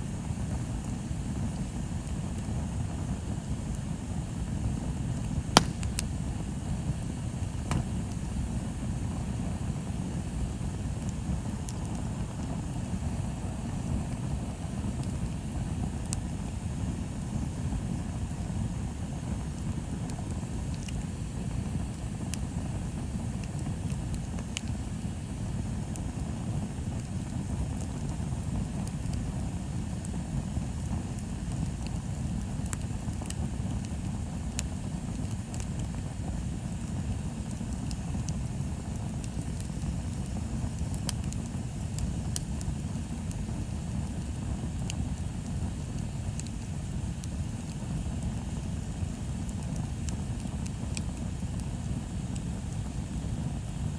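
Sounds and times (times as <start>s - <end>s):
bonfire low rumble: 0.0s - 53.9s
wood crackling and popping: 0.2s - 53.9s.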